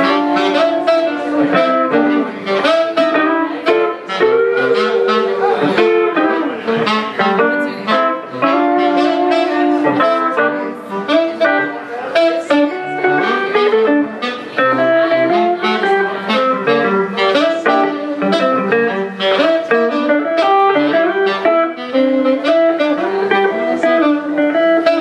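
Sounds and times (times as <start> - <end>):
saxophone holding long notes: 0.0 - 25.0.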